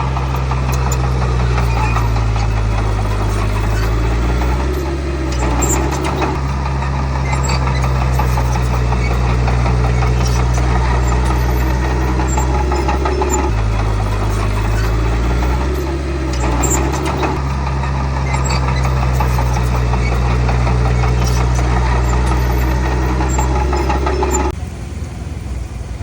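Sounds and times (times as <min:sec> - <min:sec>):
light mechanical clatter: 0:00.0 - 0:24.8
heavy diesel engine running: 0:00.0 - 0:26.0.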